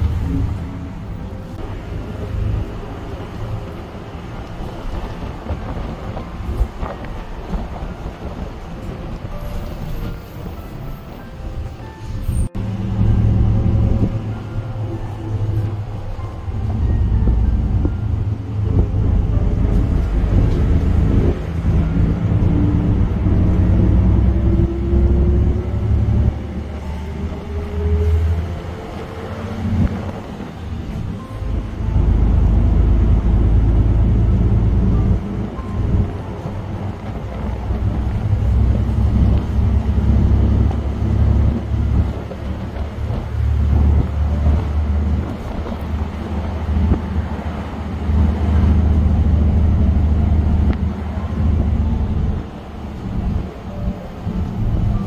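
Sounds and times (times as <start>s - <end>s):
bus engine and road rumble: 0.0s - 55.0s
bus whine rising in pitch: 0.0s - 55.0s.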